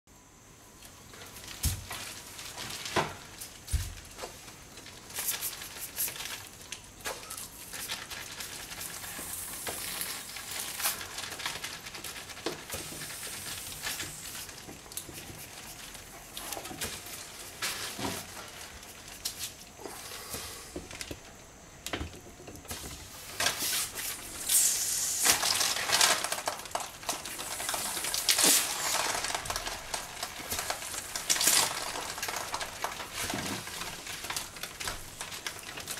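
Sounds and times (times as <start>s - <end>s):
crackly hissing rustle: 0.5s - 35.9s.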